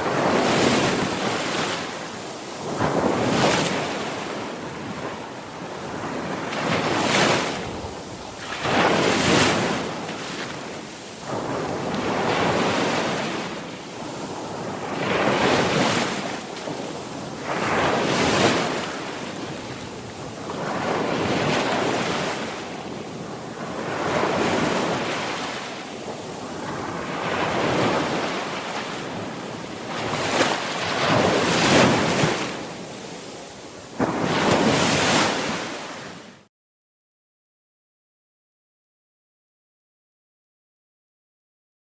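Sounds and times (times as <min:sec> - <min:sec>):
sea waves breaking on shore: 0:00.0 - 0:36.5.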